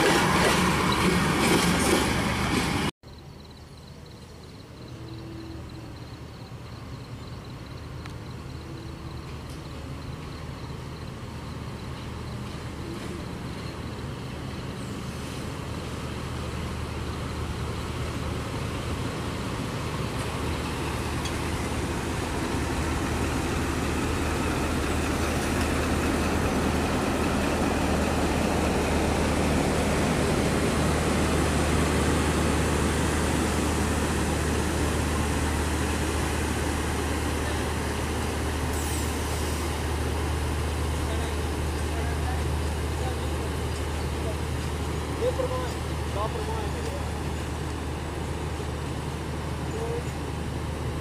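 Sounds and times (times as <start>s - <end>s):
diesel train engine drone: 0.0s - 51.0s.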